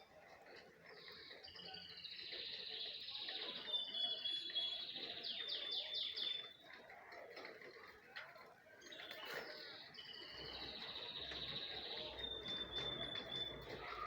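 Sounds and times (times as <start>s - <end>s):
small birds chirping: 0.0s - 7.6s, 8.3s - 14.0s.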